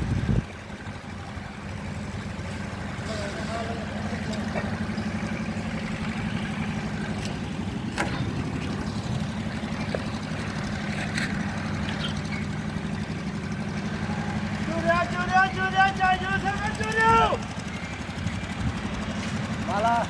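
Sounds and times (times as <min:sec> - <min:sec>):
machine engine droning: 0:00.0 - 0:20.0.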